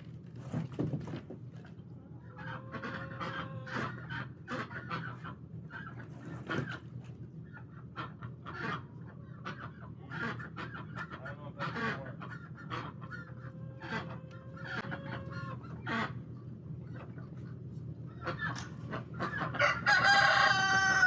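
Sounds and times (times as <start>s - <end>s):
chickens clucking: 2.0s - 21.0s.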